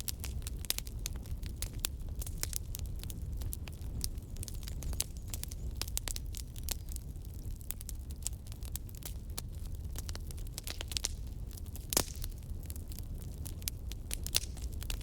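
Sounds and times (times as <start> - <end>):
fire low rumble: 0.0 - 15.0
fire popping and snapping: 0.0 - 15.0.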